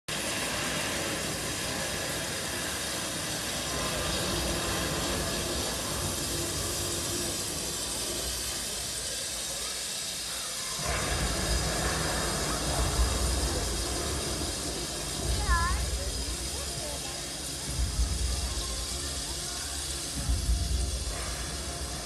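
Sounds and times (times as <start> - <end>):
rain hissing: 0.1 - 22.0.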